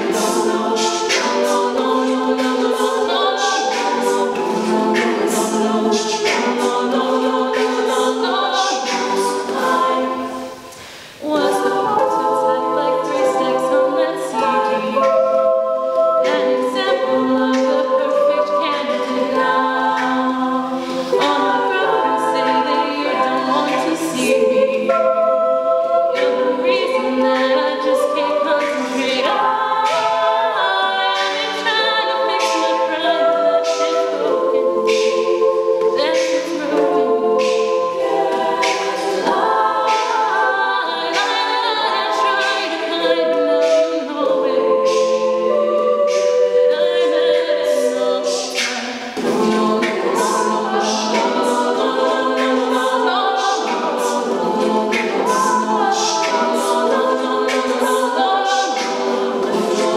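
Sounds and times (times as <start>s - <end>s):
vocal percussive beat: 0.0s - 59.9s
women singing backing harmonies: 0.0s - 59.9s.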